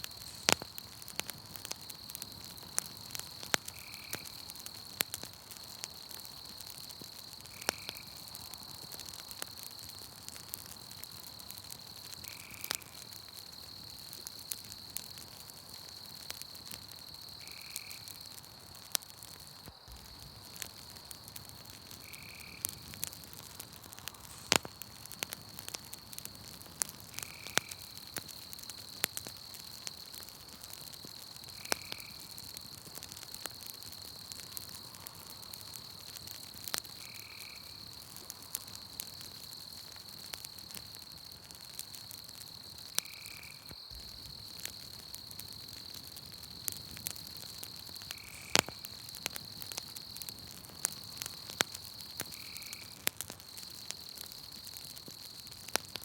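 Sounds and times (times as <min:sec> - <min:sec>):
campfire crackling and popping: 0:00.0 - 0:56.0
night insects trilling: 0:00.0 - 0:56.0.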